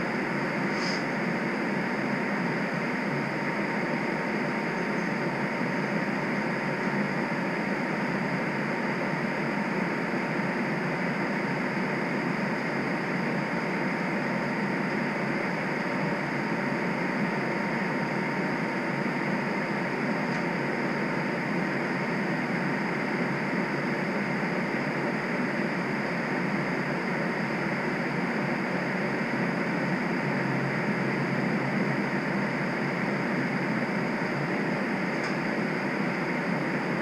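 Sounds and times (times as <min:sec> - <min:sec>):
faint steady whine: 0:00.0 - 0:37.0
streetcar interior hum and hiss: 0:00.0 - 0:37.0.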